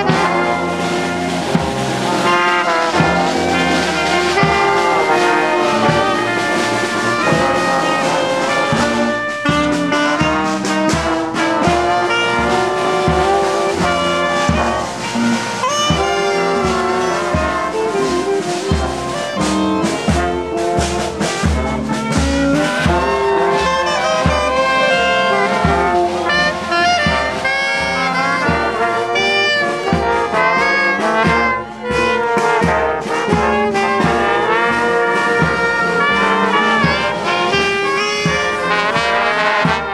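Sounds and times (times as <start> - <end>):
marching brass band playing: 0.0 - 39.9
steady low drum beat: 0.0 - 39.9.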